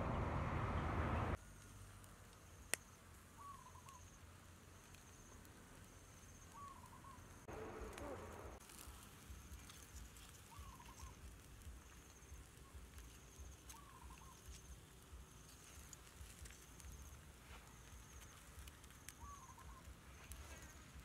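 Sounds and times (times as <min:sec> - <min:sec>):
insect trilling: 0:03.4 - 0:21.0.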